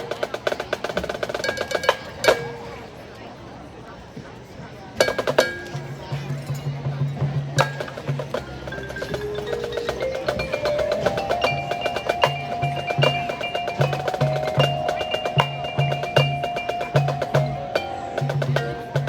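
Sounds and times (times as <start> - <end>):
marching band percussion: 0.0 - 2.7, 5.0 - 19.0.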